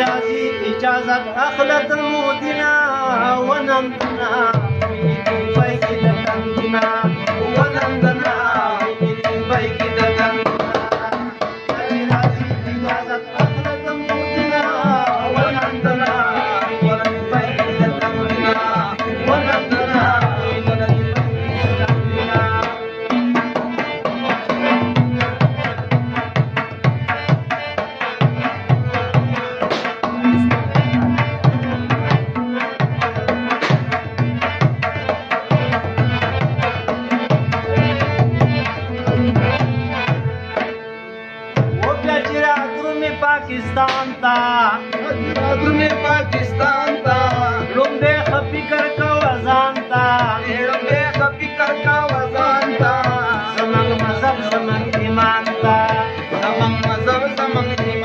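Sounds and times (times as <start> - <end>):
person singing: 0.0 - 26.2, 27.4 - 40.7, 41.7 - 58.0
harmonium melody: 0.0 - 58.0
tabla rhythm: 0.0 - 58.0.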